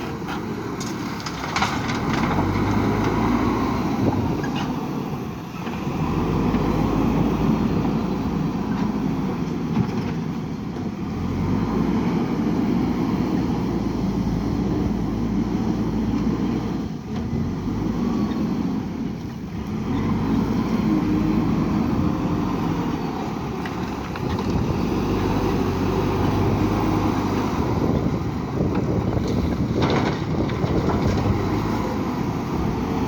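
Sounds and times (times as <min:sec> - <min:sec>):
diesel engine revving under load: 0:00.0 - 0:33.0.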